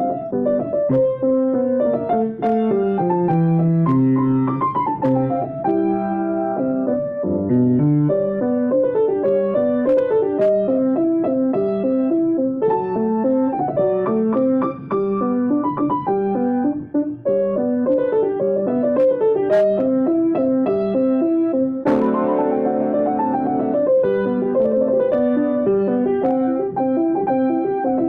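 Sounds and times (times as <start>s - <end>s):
solo piano piece: 0.0s - 28.0s.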